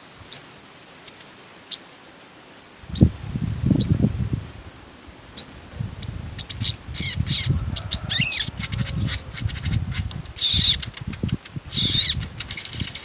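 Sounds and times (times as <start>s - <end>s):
songbird singing: 0.3s - 1.9s, 2.9s - 4.1s, 5.2s - 13.0s.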